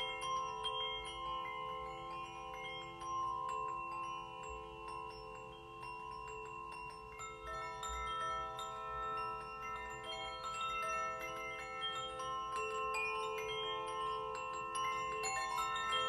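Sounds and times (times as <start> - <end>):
light metallic tinkles: 0.0 - 16.0.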